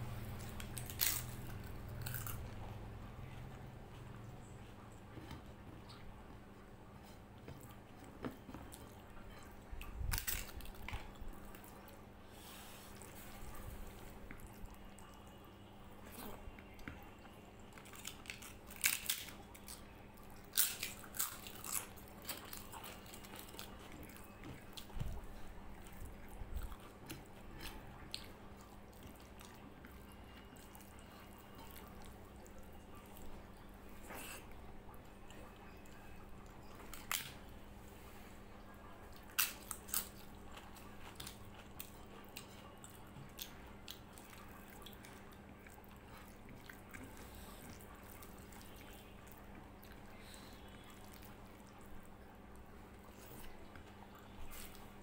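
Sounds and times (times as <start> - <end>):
chewing and wet mixing of food: 0.0 - 55.0
faint steady hum: 0.0 - 55.0.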